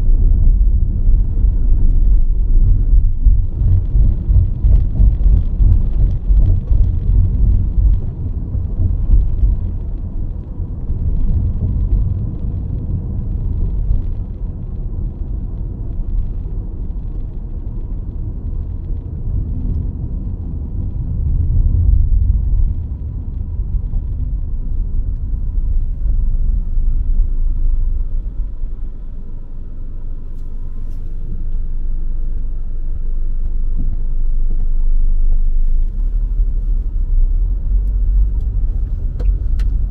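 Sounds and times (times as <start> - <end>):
car driving rumble: 0.0 - 39.9
tyres droning on road: 0.0 - 39.9.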